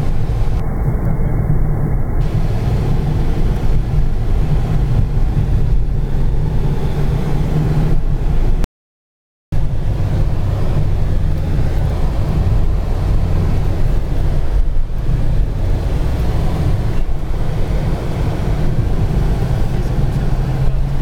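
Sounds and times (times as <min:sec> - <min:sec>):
low engine drone: 0:00.0 - 0:08.6, 0:09.5 - 0:21.0
road noise: 0:00.0 - 0:08.7, 0:09.5 - 0:21.0.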